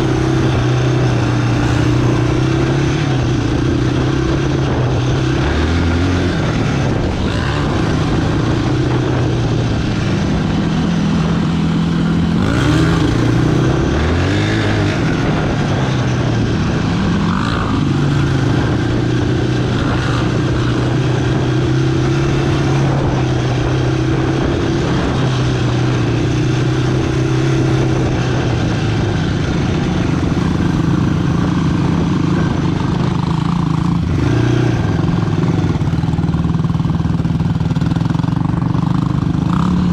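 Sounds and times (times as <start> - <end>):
quad engine running and revving: 0.0 - 39.9.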